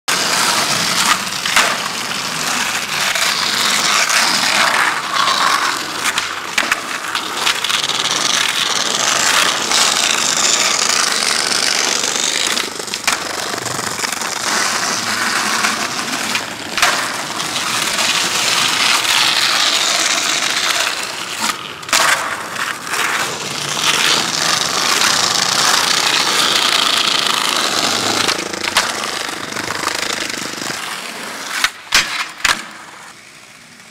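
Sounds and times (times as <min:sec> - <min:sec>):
skateboard clacking on ground: 0:00.1 - 0:33.9
skateboard wheels rolling on concrete: 0:00.1 - 0:33.9.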